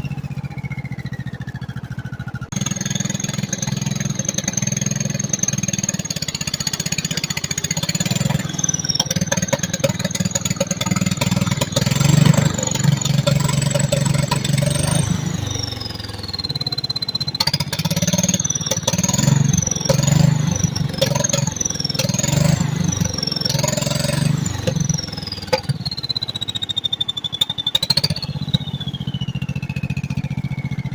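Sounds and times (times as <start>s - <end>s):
small engine revving: 0.0s - 30.9s
turbo whistling: 0.0s - 30.9s.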